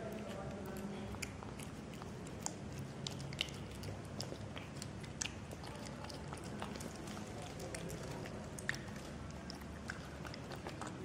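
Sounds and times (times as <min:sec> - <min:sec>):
cat chewing wet food: 0:00.0 - 0:11.0.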